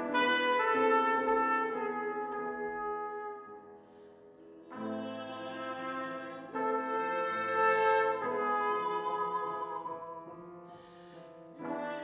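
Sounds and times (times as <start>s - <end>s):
trumpet playing slow melody: 0.0s - 10.6s
piano accompaniment: 0.0s - 12.0s.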